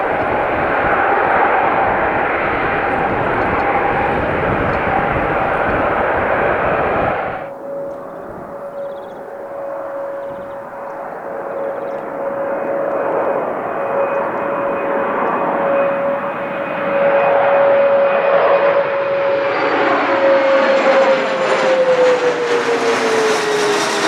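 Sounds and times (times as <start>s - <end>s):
aircraft engine whine: 0.0s - 24.0s.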